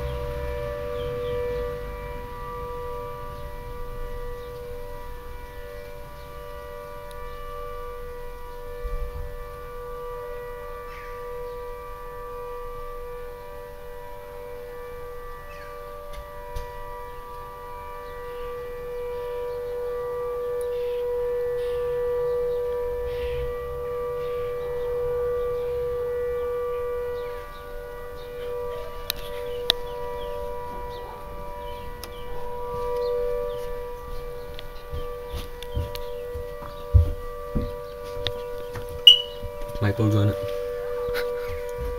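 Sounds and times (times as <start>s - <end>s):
air raid siren: 0.0s - 41.9s.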